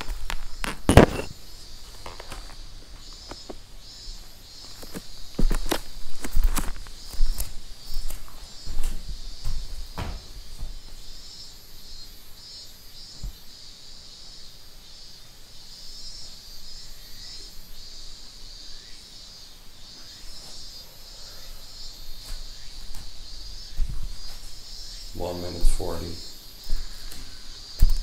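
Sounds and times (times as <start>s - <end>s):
insects chirping: 0.0s - 28.0s
pulsing high insect call: 0.0s - 28.0s.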